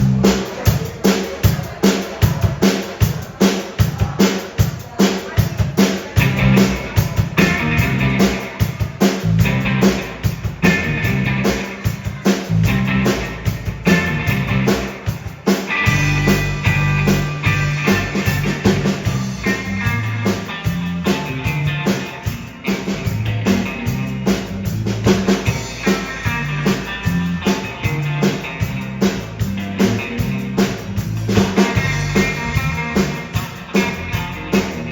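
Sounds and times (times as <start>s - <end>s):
bass notes: 0.0s - 0.8s, 6.2s - 34.9s
drum kit beat: 0.0s - 34.9s.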